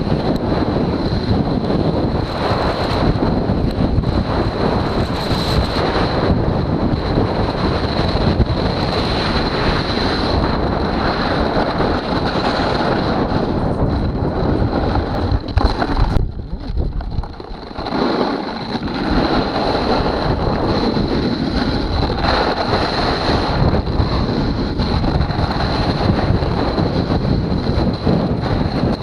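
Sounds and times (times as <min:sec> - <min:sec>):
snowboard scraping ice: 0:00.0 - 0:29.0
wind rushing over microphone: 0:00.0 - 0:29.0.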